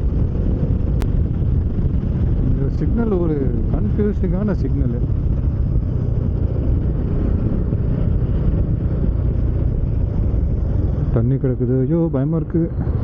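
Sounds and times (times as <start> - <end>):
motorcycle engine running: 0.0 - 11.2
wind buffeting microphone: 0.0 - 13.0.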